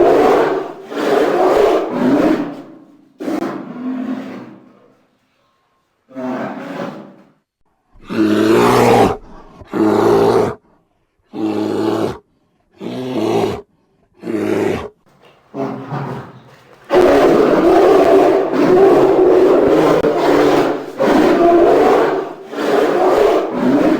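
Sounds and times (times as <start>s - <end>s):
bear roaring: 0.0s - 4.8s, 6.1s - 7.2s, 8.0s - 10.6s, 11.3s - 23.9s.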